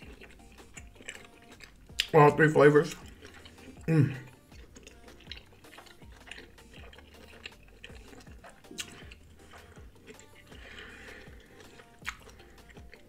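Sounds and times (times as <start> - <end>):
wet chewing mouth clicks: 0.0 - 2.2, 2.9 - 13.0.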